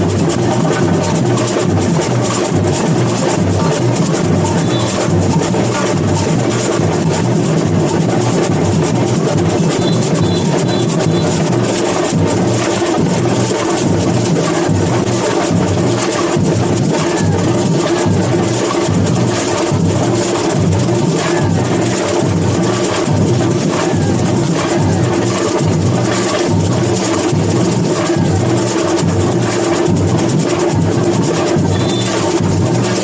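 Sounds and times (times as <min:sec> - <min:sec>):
deep drums pulsing: 0:00.0 - 0:33.0
samba percussion band: 0:00.0 - 0:33.0.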